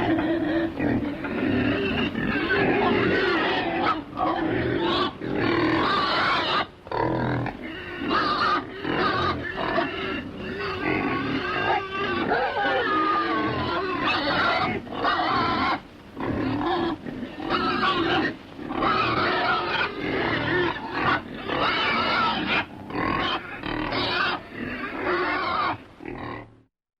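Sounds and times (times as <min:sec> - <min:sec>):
pig grunting: 0:00.0 - 0:26.7.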